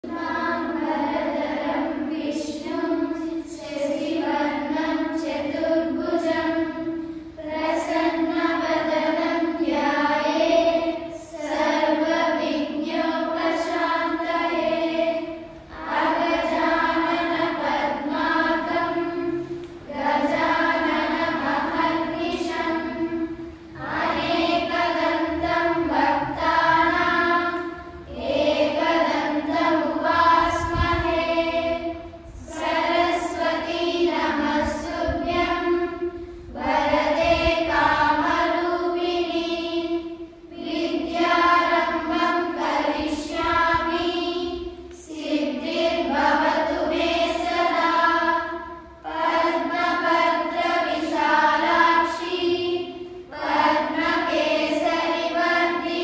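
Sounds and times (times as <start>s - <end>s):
children chanting in unison: 0.0s - 56.0s.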